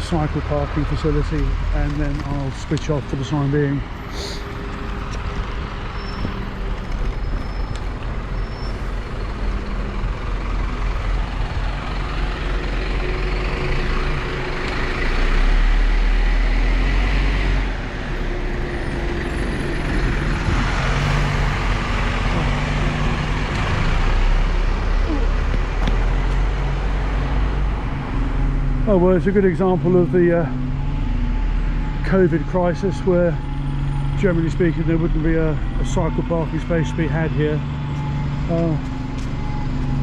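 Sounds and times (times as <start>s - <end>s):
heavy vehicle engine rumble: 0.0s - 40.0s
road traffic: 0.0s - 40.0s.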